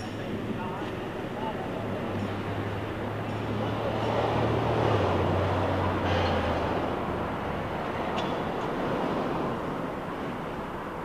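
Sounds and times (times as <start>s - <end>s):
noisy rumble: 0.0s - 11.0s.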